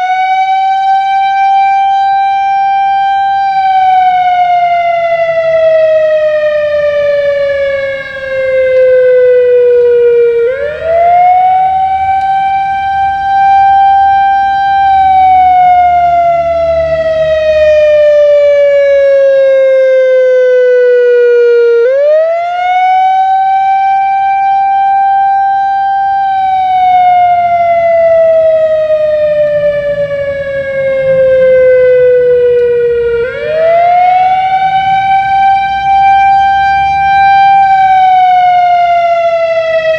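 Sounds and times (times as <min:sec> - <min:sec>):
wailing tornado siren: 0:00.0 - 0:39.9.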